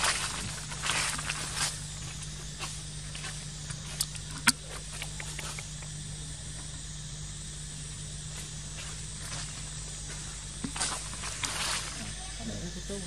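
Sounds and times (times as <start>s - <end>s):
faint low hum: 0.0s - 13.0s
insect drone: 0.0s - 13.0s.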